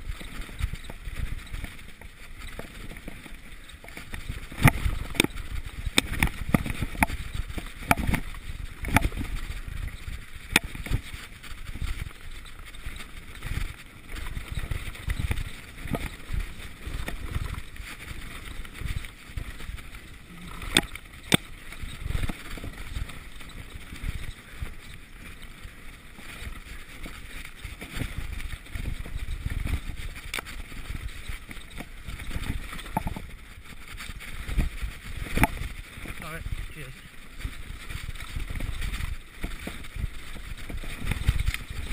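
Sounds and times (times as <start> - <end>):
bike knocking and rattling on rocks: 0.0 - 41.9
bike tyres rumbling on dirt trail: 0.0 - 41.9
wind on camera: 0.0 - 41.9.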